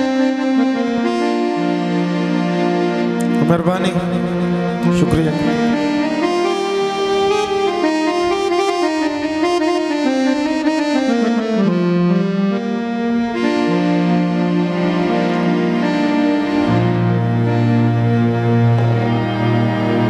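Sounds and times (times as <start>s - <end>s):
harmonium playing: 0.0s - 20.0s.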